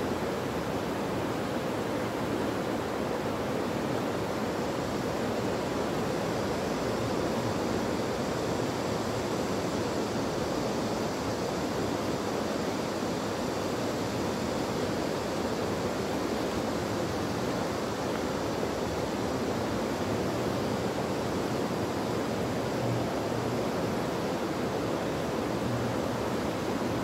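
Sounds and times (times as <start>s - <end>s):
river rushing: 0.0s - 27.0s.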